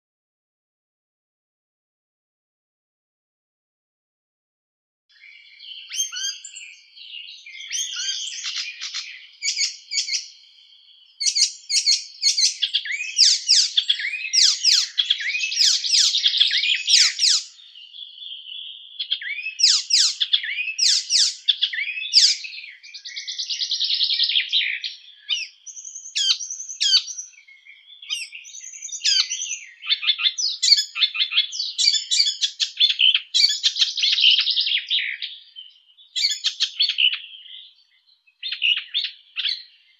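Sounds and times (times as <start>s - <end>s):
songbird singing chattering trills: 5.2s - 39.9s.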